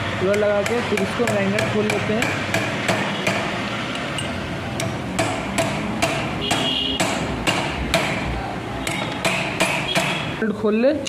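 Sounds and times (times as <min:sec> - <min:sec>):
hammer striking metal: 0:00.2 - 0:10.4.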